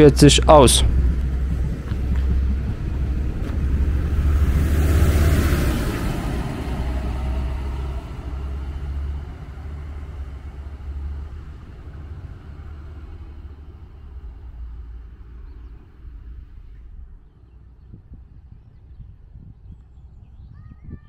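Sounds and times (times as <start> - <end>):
diesel train pulling away: 0.0 - 19.3.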